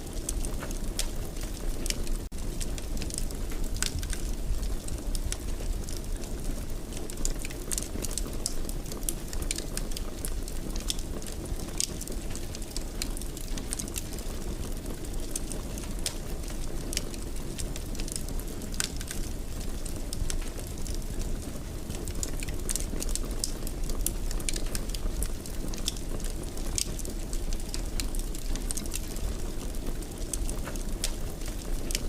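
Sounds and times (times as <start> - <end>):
burning wood crackling and popping: 0.0 - 32.0
low rumble of flames: 0.0 - 32.0.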